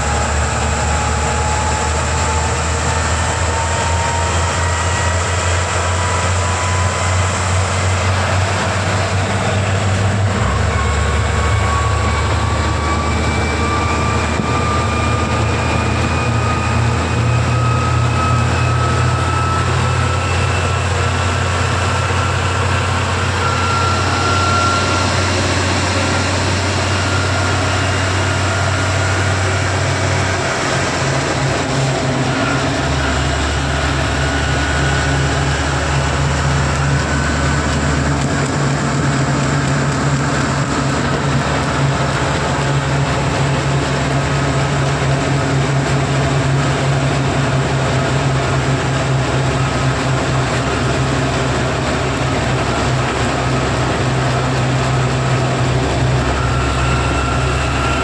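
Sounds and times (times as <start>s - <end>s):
diesel engine droning: 0.0s - 58.0s
road and wind noise: 0.0s - 58.0s.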